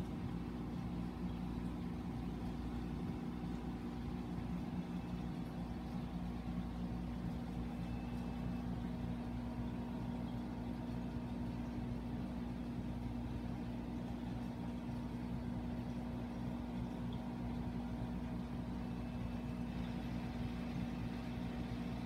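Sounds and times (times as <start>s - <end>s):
aquarium equipment humming: 0.0s - 22.0s.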